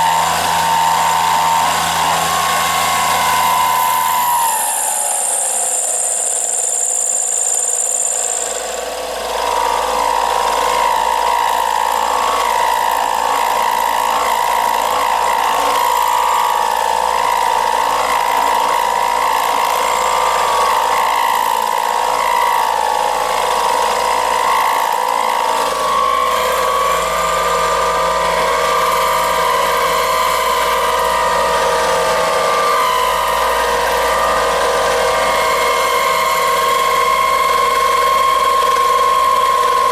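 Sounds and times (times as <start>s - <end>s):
high whistle: 0.0s - 39.9s
milling machine whine: 0.0s - 39.9s.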